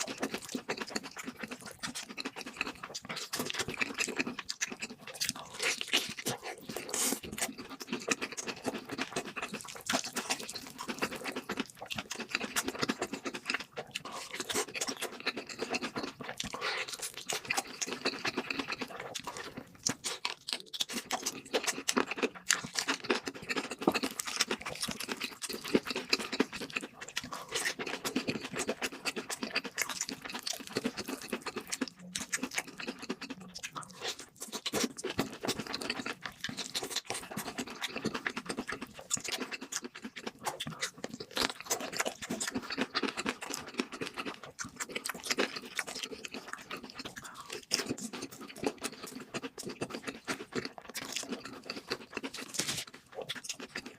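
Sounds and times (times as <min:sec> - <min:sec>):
chewing crispy fried food: 0:00.0 - 0:53.9
wet mouth sounds: 0:00.0 - 0:53.9.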